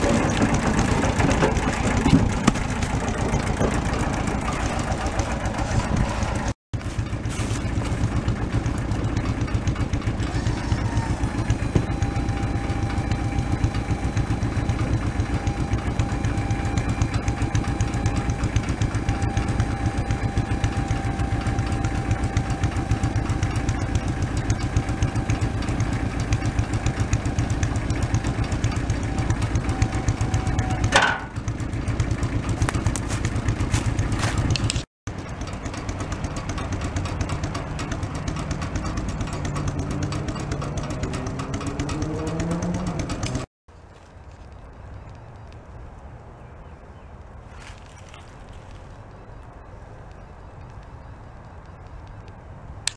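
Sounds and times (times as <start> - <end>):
small engine idling: 0.0 - 45.5.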